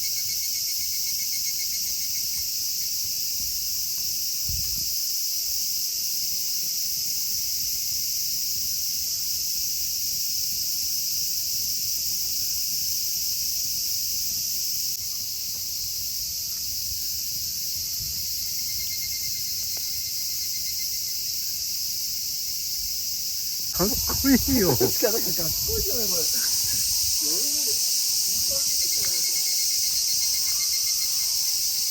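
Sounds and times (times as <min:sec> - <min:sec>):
insects chirring: 0:00.0 - 0:31.9.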